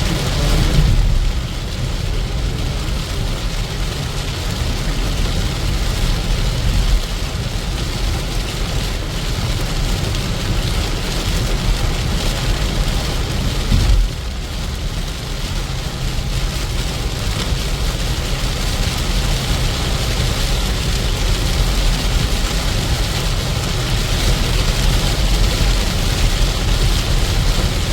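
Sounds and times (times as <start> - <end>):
steady rain: 0.0 - 27.9
vehicle driving rumble: 0.0 - 27.9.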